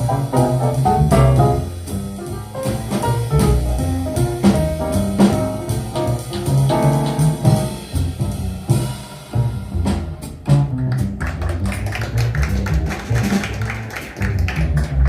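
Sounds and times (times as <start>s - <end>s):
jazz music with drums bass piano: 0.0s - 15.0s.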